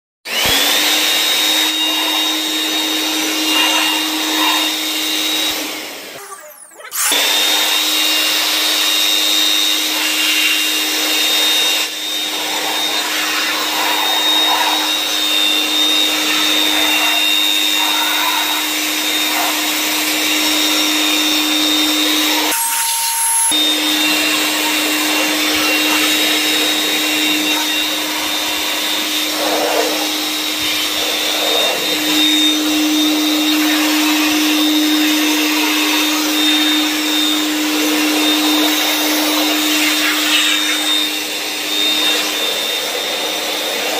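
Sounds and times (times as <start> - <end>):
electric air blower running: 0.2 - 43.9.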